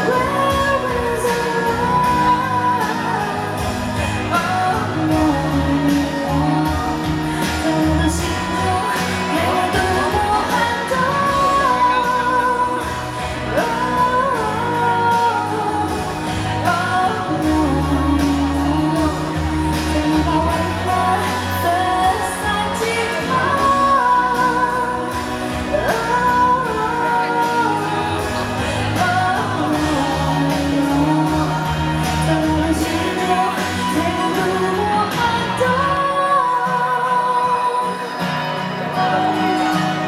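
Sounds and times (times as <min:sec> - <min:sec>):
band playing pop music: 0:00.0 - 0:40.0
woman singing: 0:00.0 - 0:40.0.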